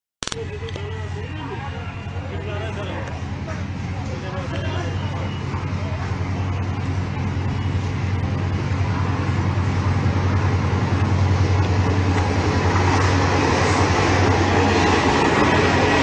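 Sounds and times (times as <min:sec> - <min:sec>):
diesel locomotive engine drone: 0:00.2 - 0:16.0
rail and wheel noise: 0:00.2 - 0:16.0.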